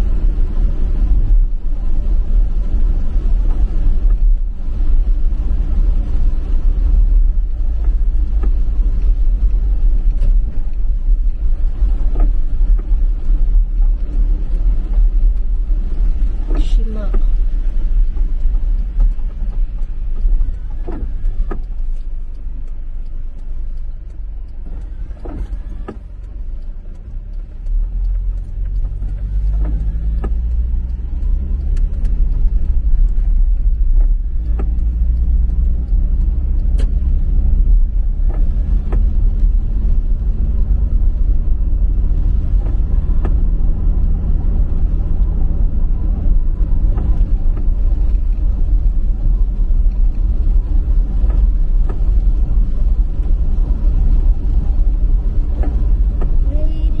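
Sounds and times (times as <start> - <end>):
vehicle engine and road rumble: 0.0 - 57.0
faint clicks: 5.5 - 57.0.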